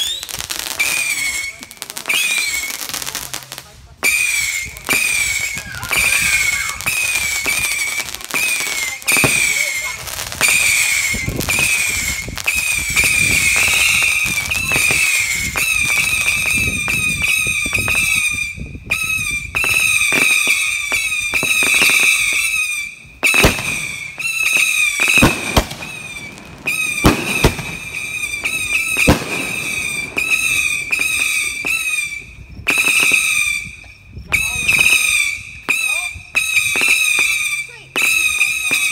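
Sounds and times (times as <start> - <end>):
fireworks bangs and crackling: 0.0 - 38.9
fireworks whistling: 0.0 - 38.9.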